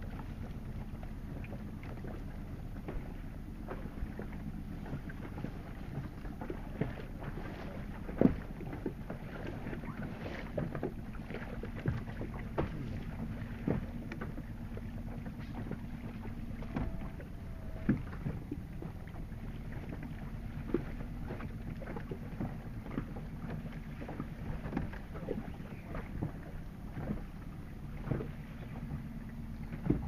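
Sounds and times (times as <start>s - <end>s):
water lapping against boat hull: 0.0s - 30.0s.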